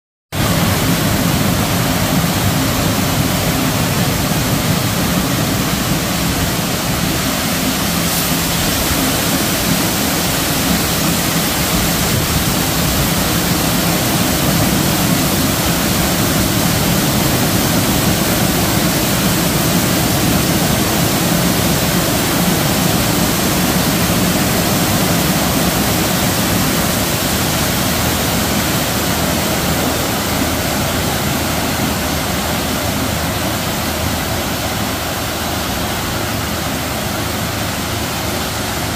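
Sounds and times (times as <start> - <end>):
high-pressure water spraying car: 0.4 - 38.9.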